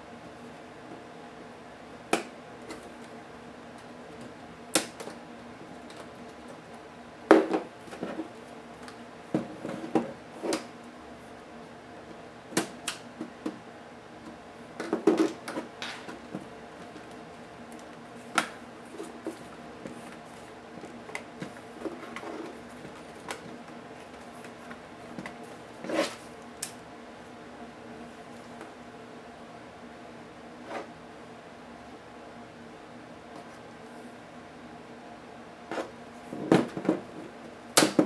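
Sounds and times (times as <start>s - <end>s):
faint hum: 0.0s - 38.0s.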